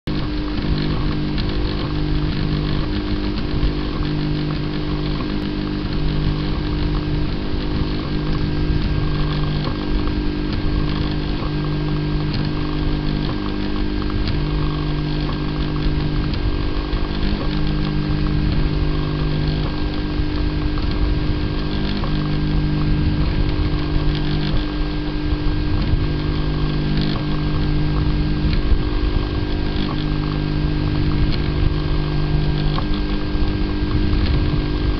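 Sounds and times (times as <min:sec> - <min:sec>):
steady mechanical hum: 0:00.1 - 0:34.9.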